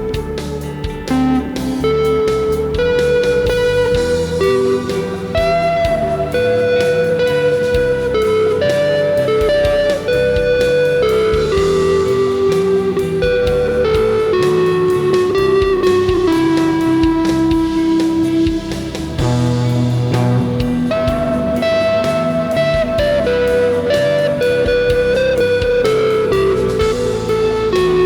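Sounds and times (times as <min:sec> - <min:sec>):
ambient rock backing track: 0:00.0 - 0:28.0
electric guitar lead: 0:00.0 - 0:28.0.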